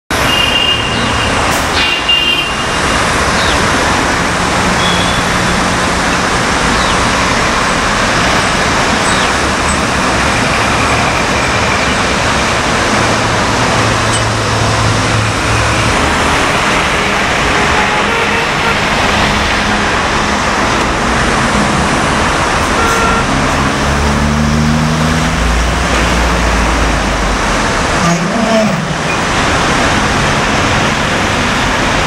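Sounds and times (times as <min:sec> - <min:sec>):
road traffic hum: 0:00.1 - 0:32.0
heavy vehicles droning past: 0:00.2 - 0:32.0.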